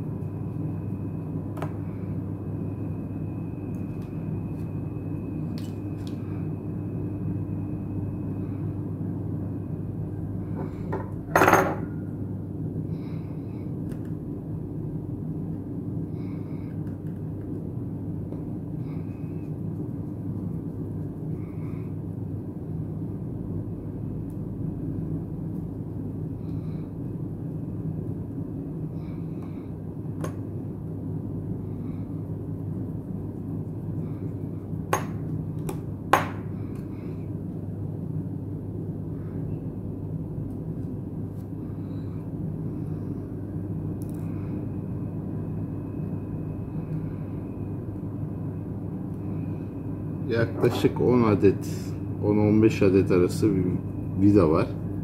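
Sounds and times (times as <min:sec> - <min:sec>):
low workspace hum: 0:00.0 - 0:55.0.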